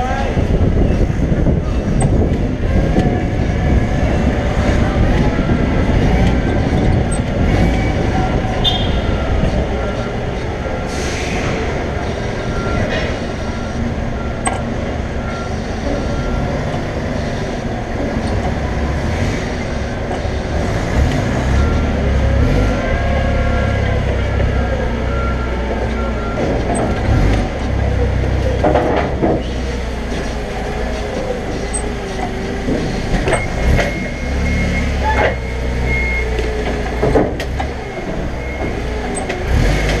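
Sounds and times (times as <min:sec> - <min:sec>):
forklift engine running: 0:00.0 - 0:40.0.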